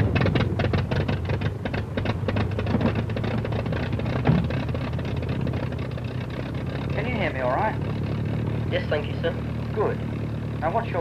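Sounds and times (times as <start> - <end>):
piston engine running unevenly: 0.0 - 11.0.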